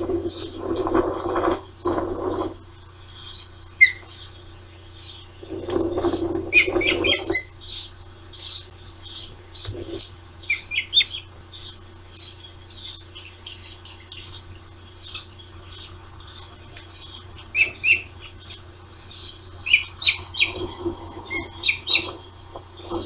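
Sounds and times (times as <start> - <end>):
ospreys chirping: 0.0 - 23.0.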